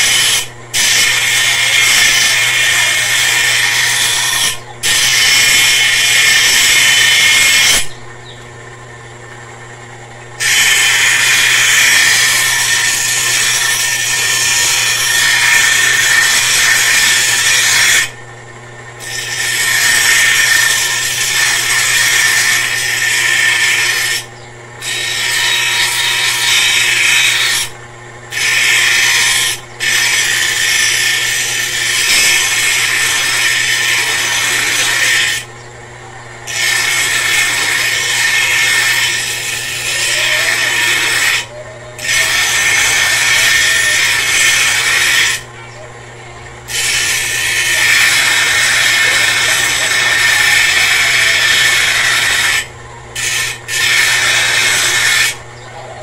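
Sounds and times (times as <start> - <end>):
blade grinding on grinding wheel: 0.0 - 8.0, 10.4 - 18.2, 18.8 - 35.6, 36.4 - 45.7, 46.4 - 56.0
motor humming: 0.0 - 56.0.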